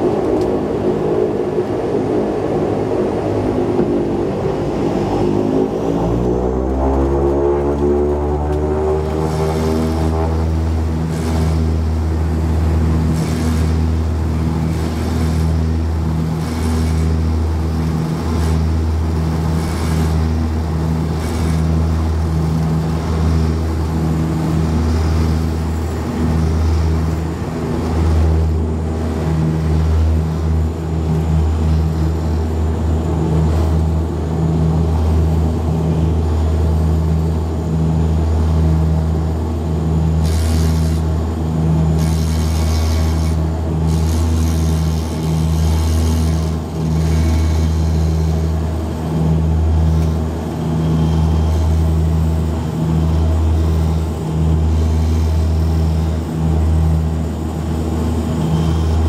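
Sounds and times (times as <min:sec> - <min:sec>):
loud propeller drone: 0:00.0 - 0:59.0.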